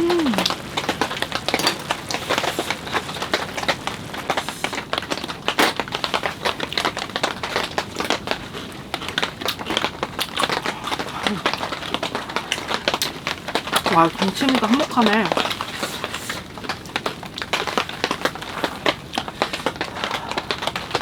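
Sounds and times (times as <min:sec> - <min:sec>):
rain pattering on tent fabric: 0:00.0 - 0:21.0.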